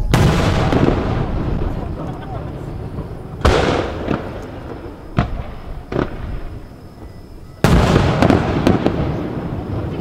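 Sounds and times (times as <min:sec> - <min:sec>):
firework shells bursting: 0:00.0 - 0:10.0.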